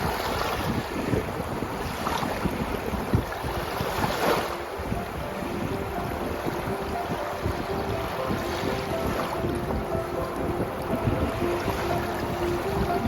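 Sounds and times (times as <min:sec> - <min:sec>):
sea water rushing: 0:00.0 - 0:13.0
wind buffeting microphone: 0:00.0 - 0:13.0.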